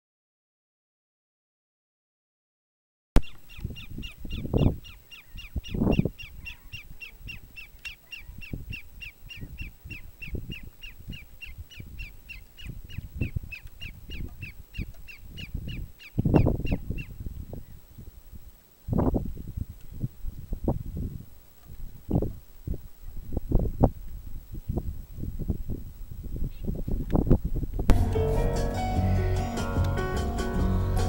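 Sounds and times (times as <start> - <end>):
wind rumbling on microphone: 3.2 - 28.8.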